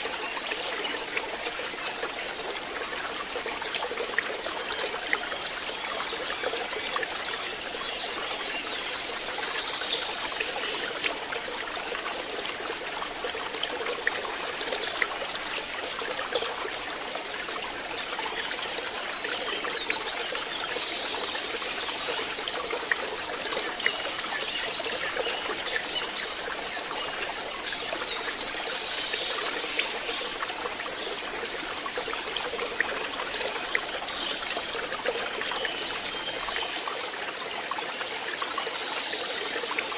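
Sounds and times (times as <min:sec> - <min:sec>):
water trickling in a pond: 0:00.0 - 0:39.9.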